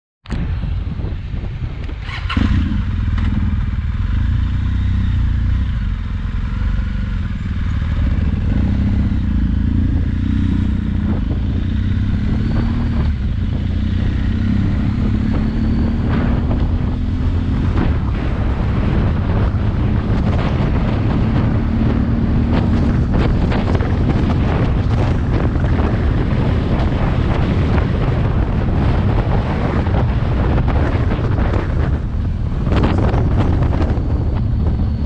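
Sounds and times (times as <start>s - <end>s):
motorcycle engine at low revs: 0.3s - 35.0s.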